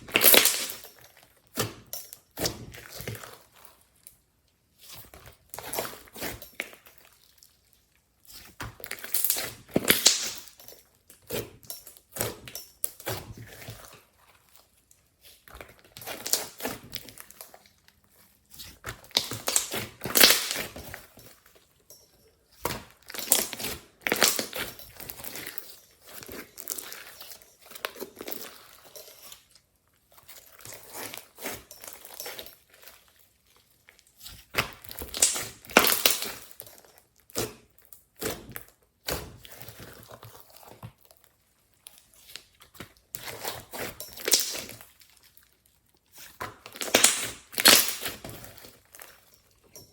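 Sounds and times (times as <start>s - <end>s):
slime squishing and crackling: 0.0s - 10.6s, 11.2s - 21.7s, 22.6s - 49.6s.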